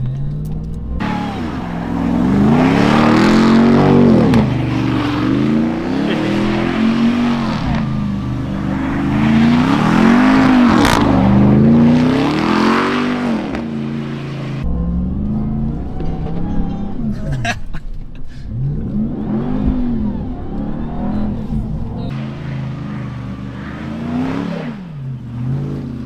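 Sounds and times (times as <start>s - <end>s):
engine revving: 0.0s - 17.5s, 18.4s - 26.0s
supercharger rushing noise: 0.8s - 17.1s, 18.5s - 26.0s.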